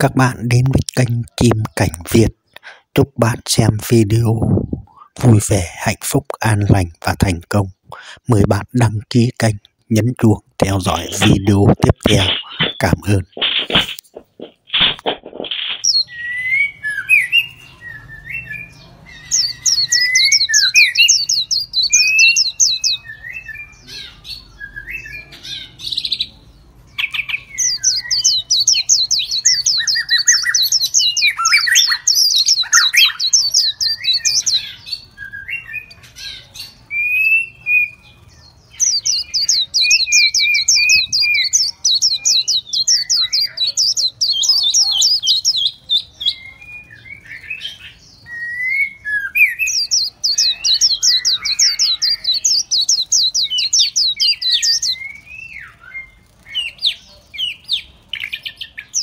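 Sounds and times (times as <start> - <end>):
songbirds singing high trills: 0.0 - 59.0
whistled bird calls: 10.7 - 26.3, 26.9 - 59.0.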